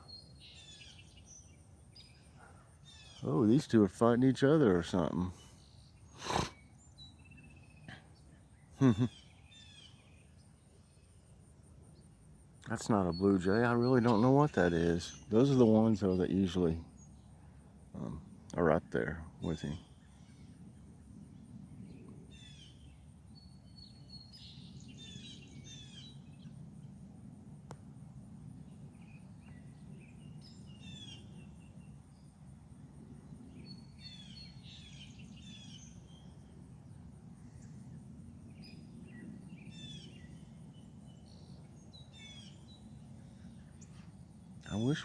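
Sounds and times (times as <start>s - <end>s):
small birds singing: 0.0s - 45.0s
steady low hum: 0.0s - 45.0s.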